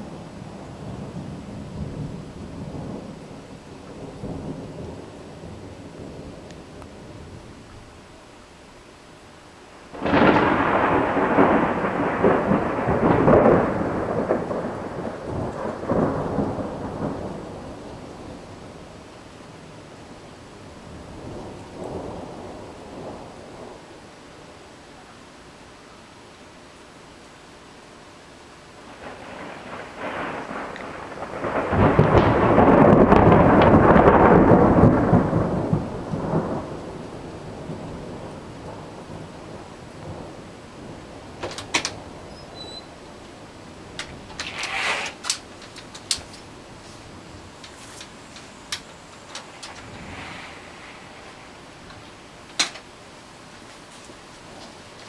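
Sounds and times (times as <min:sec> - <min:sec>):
thunder crack and rumble: 0:00.0 - 0:07.9, 0:09.9 - 0:19.1, 0:20.8 - 0:24.0, 0:28.9 - 0:52.9
steady rain: 0:00.0 - 0:55.0.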